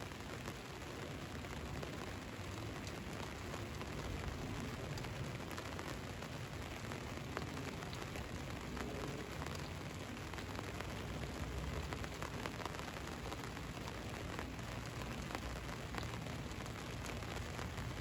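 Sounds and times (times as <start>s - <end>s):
rain pattering on a vehicle: 0.0s - 18.0s.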